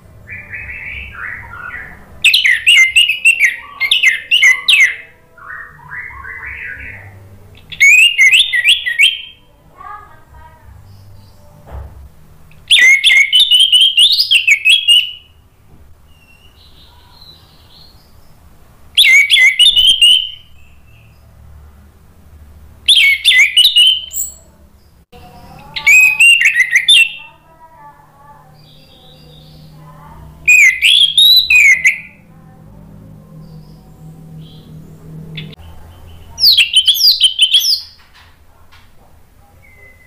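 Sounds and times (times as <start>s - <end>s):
thrush singing: 0.0s - 38.0s.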